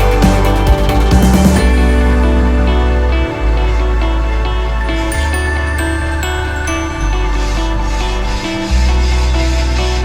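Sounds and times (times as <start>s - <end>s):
deep synth bass note: 0.0s - 10.0s
held synthesizer notes: 0.0s - 10.0s.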